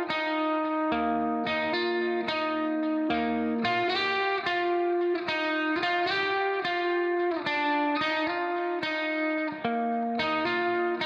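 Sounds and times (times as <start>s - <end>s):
plucked guitar notes and chords: 0.0s - 11.0s.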